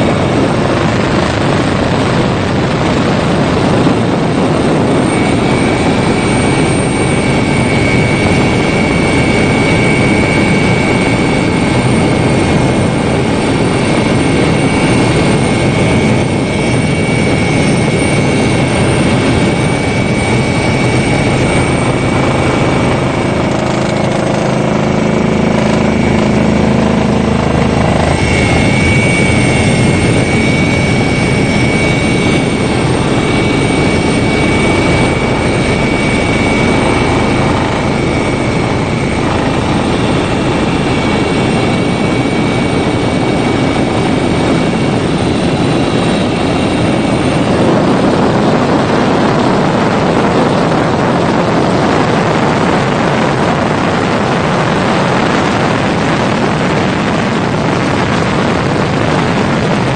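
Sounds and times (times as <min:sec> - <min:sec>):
helicopter engine and rotor: 0:00.0 - 0:59.9
thin high whine: 0:00.0 - 0:59.9.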